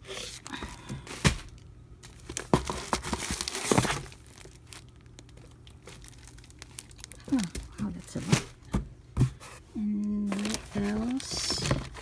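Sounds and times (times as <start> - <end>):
plastic packets crinkling: 0.2 - 8.7, 10.2 - 12.0.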